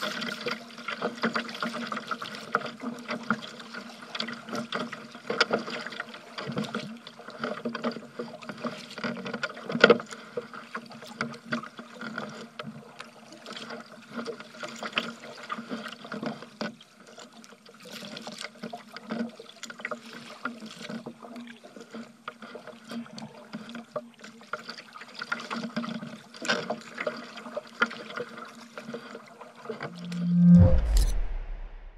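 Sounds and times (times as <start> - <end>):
water splashing around kayak: 0.0 - 30.2.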